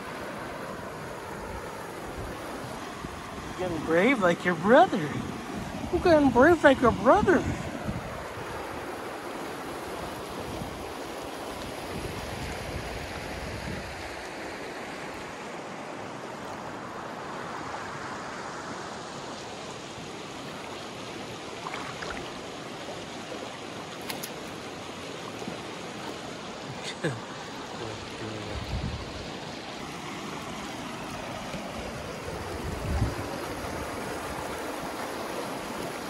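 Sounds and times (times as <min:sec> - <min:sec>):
creek running over rocks: 0:00.0 - 0:36.0.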